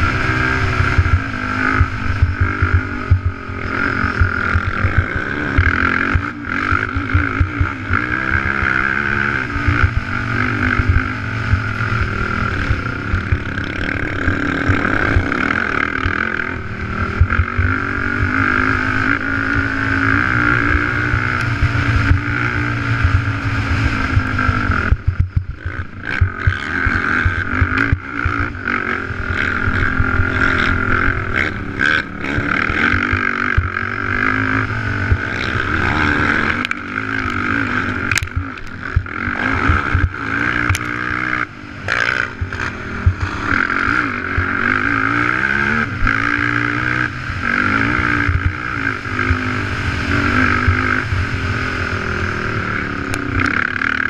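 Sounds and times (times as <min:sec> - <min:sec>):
quad bike engine running hard: 0:00.0 - 0:54.0.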